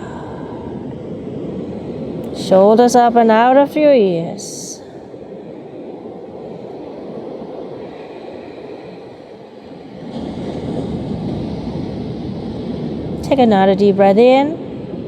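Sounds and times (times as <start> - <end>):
low rushing seaside noise: 0.0 - 15.0.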